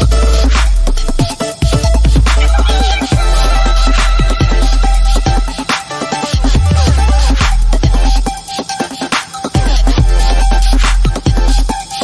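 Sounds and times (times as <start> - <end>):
electronic hip-hop music: 0.0 - 12.0.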